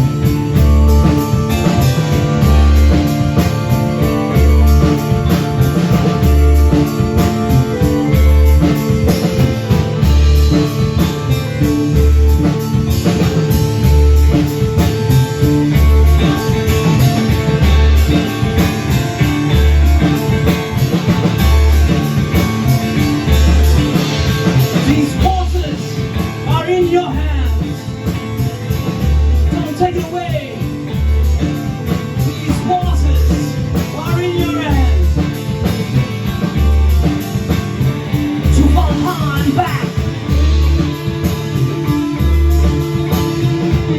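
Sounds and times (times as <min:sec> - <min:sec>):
bending lead guitar line: 0:00.0 - 0:43.9
live rock band playing: 0:00.0 - 0:43.9.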